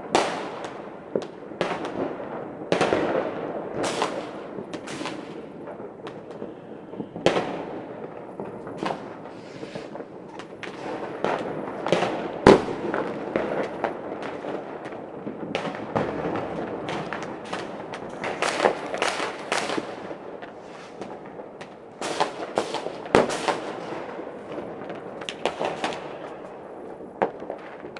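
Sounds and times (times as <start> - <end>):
fireworks crackling: 0.0 - 27.9
firecracker bangs: 1.6 - 21.3, 22.0 - 27.9.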